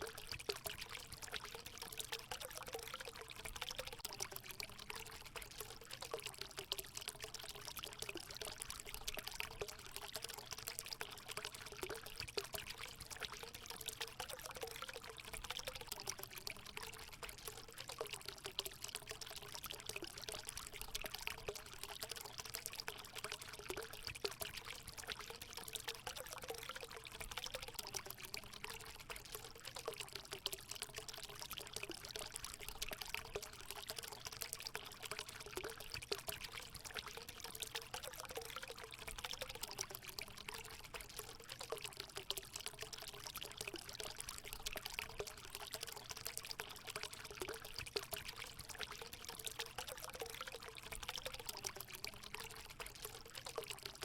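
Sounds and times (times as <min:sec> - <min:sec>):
water pouring into pool: 0:00.0 - 0:54.0.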